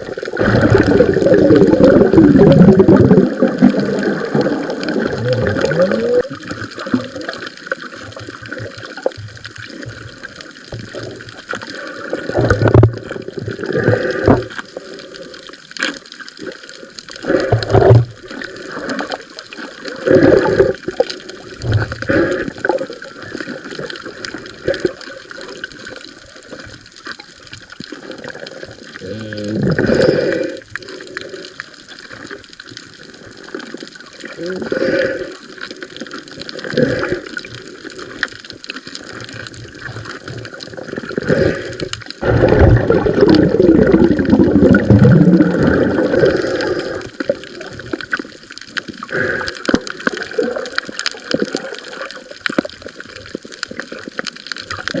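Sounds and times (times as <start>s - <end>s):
water gushing surges: 0.0s - 55.0s
water sloshing and gurgling: 0.0s - 55.0s.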